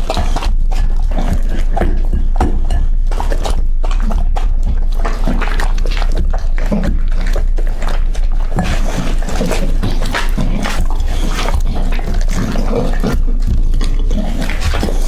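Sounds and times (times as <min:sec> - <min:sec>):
dog chewing meat: 0:00.0 - 0:15.0.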